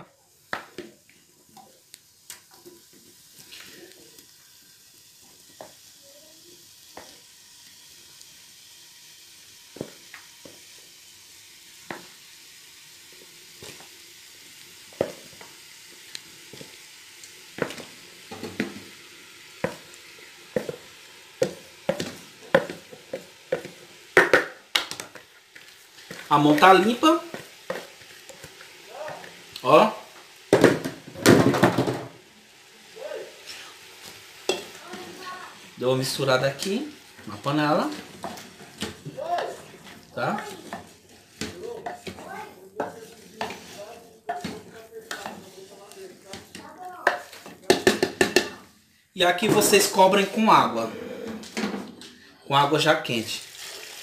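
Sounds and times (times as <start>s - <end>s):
meat sizzling in hot oil: 0.0s - 50.9s, 52.5s - 54.0s.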